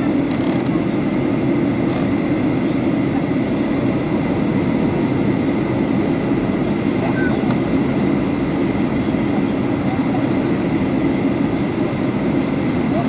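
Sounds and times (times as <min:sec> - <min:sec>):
airliner cabin engine drone: 0:00.0 - 0:13.0.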